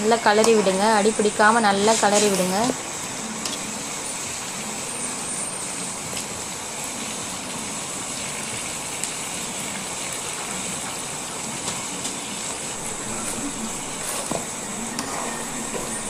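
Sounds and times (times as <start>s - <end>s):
curry sizzling in a pan: 0.0s - 16.0s.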